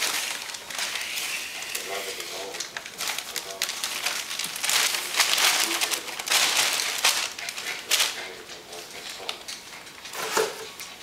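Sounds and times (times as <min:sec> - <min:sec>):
wrapping paper rustling and tearing: 0:00.0 - 0:11.0.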